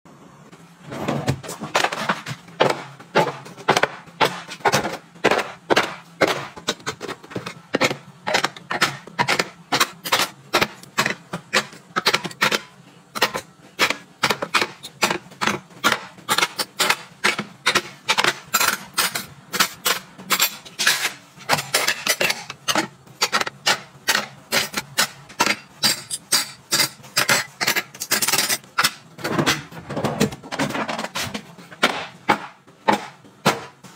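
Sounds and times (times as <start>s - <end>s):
cutlery clinking into plastic trays: 1.5s - 33.2s.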